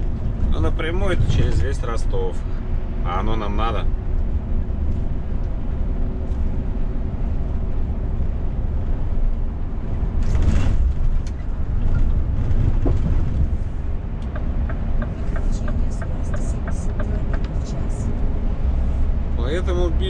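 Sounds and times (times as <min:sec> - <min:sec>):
truck engine rumble in cab: 0:00.0 - 0:20.0.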